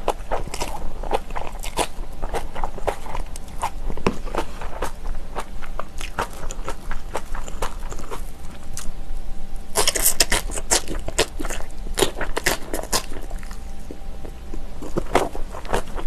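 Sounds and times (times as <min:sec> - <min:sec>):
wet crunching and chewing: 0:00.0 - 0:09.0, 0:09.7 - 0:16.0.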